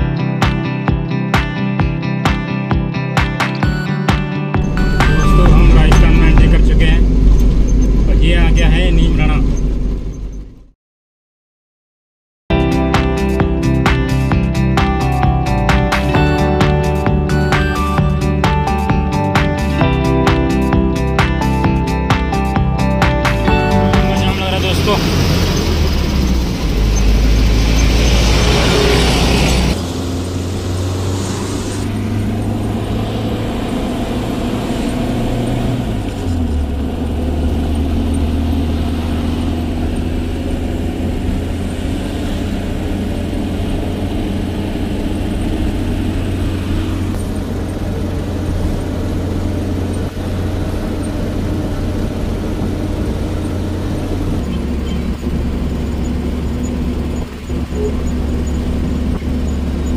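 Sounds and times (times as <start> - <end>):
road noise: 3.4 - 10.8, 12.6 - 59.9
truck diesel engine running: 4.6 - 10.7, 12.6 - 59.9.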